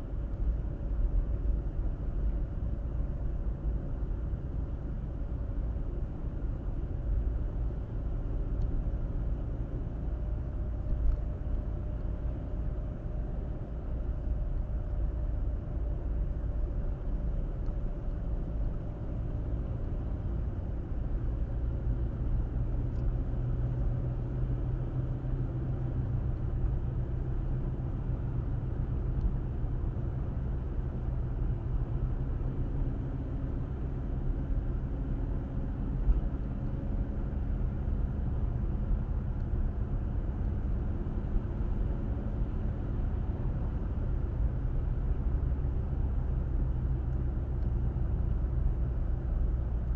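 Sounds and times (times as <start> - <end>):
faint engine hum: 0.0 - 49.9
road and tyre rumble: 0.0 - 49.9.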